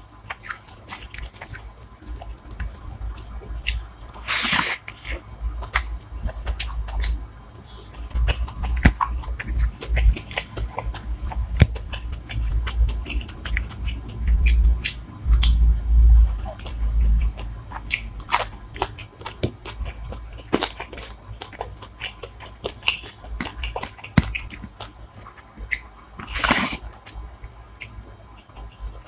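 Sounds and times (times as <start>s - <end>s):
food crunching: 0.0s - 15.7s, 16.3s - 29.0s
chewing and biting: 0.0s - 29.0s.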